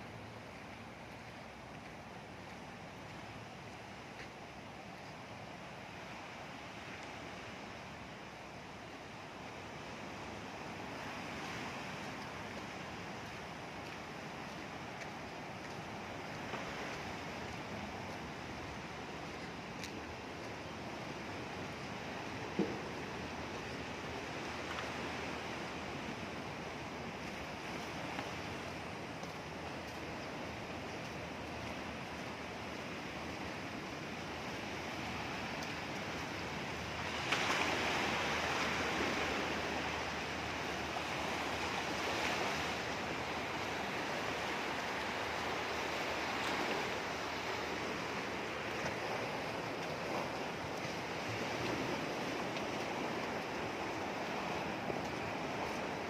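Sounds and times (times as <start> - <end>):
sea rushing: 0.0 - 56.0
wind: 0.0 - 56.0.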